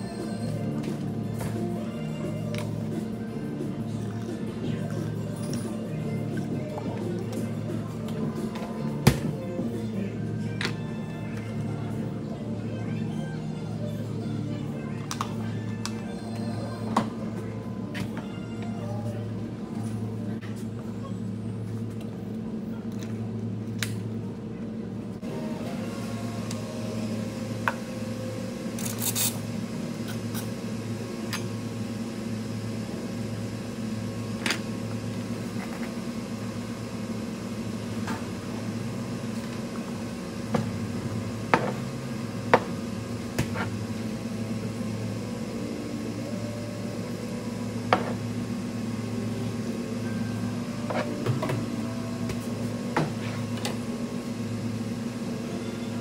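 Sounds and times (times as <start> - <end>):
low hum of running equipment: 0.0 - 56.0.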